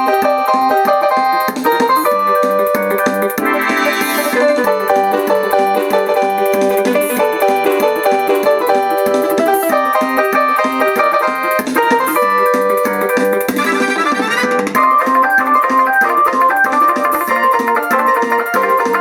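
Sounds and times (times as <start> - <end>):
electronic keyboard playing notes: 0.0 - 19.0.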